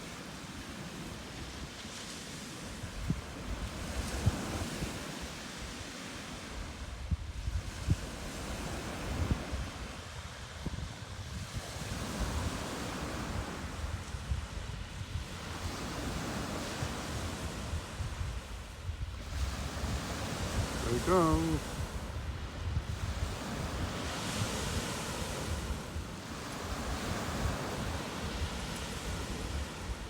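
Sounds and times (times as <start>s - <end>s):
surf washing onto beach: 0.0s - 30.0s
wind buffeting microphone: 2.6s - 30.0s.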